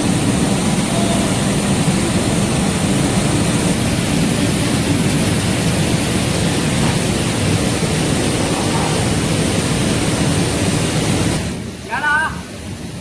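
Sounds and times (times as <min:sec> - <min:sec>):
conveyors and fans rumbling: 0:00.0 - 0:13.0.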